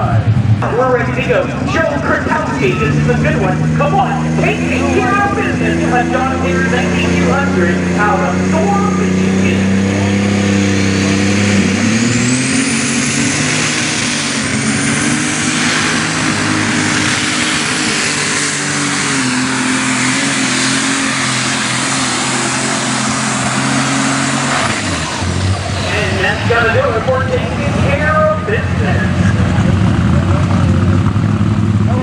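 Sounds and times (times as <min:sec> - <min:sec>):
pulling tractor engine running: 0:00.0 - 0:32.0.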